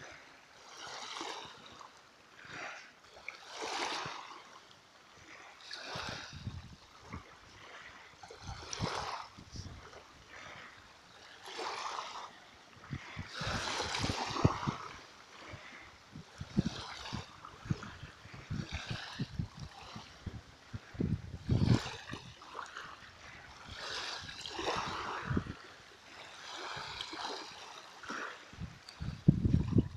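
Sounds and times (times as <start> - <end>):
small waves lapping on shore: 0.0 - 29.9.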